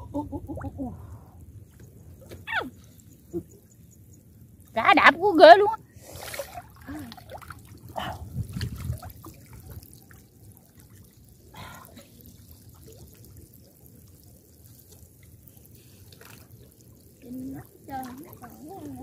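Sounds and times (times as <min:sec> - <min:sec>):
shallow water splashing: 0:00.1 - 0:19.0.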